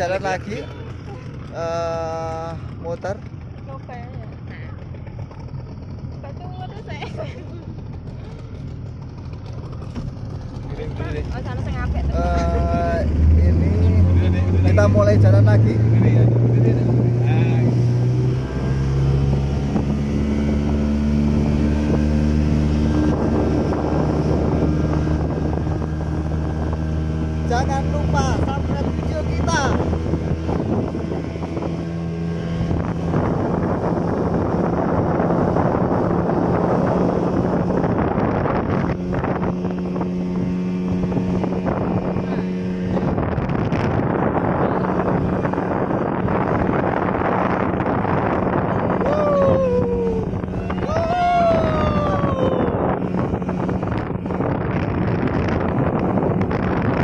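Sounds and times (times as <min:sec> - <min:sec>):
speedboat engine revving: 0:00.0 - 0:57.0
wind buffeting microphone: 0:00.0 - 0:57.0.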